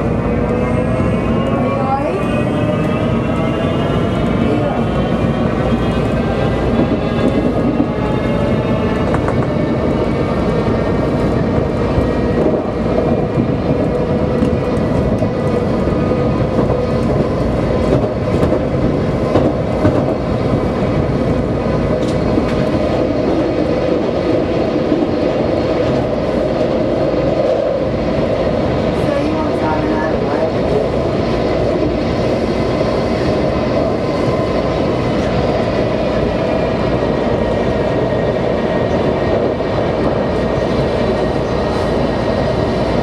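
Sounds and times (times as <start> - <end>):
subway train wheels rumbling: 0.0 - 43.0.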